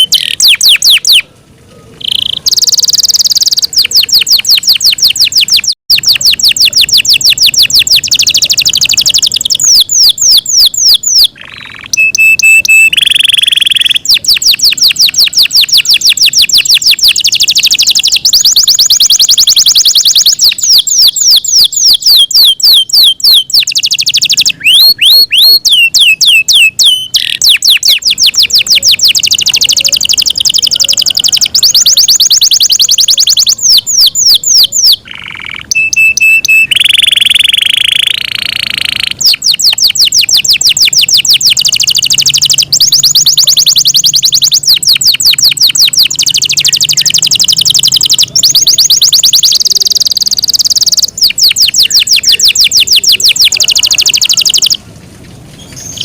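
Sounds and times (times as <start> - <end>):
canary singing trills: 0.0 - 54.8, 55.5 - 56.0.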